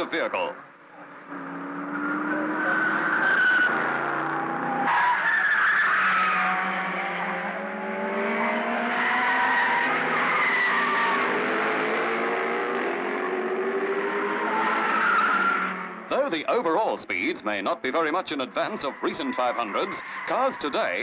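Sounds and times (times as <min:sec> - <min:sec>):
racing car engines accelerating: 0:00.0 - 0:21.0.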